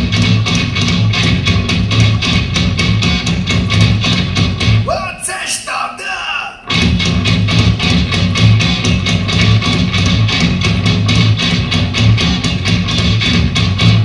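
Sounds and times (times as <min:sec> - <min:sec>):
loud fast music with deep bass: 0:00.0 - 0:05.1, 0:06.7 - 0:14.0.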